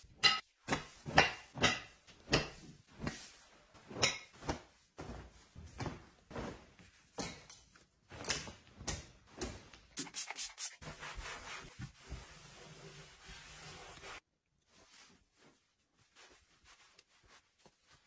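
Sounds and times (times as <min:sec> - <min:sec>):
clothes and hangers rustling: 0:00.0 - 0:18.0.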